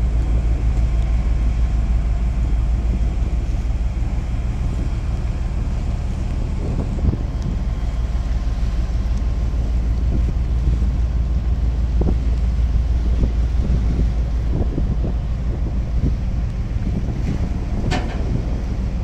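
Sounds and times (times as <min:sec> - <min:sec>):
ship engine rumble: 0:00.0 - 0:19.0
wind blowing across microphone: 0:00.0 - 0:19.0.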